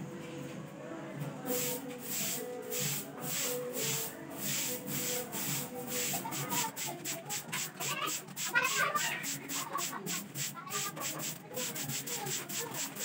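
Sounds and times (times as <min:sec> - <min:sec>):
broom sweeping concrete floor: 0:01.4 - 0:13.0.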